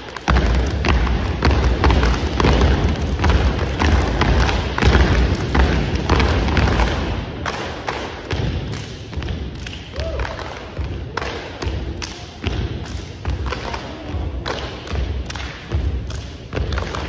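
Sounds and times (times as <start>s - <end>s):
people stomping clapping and slapping: 0.0s - 17.0s.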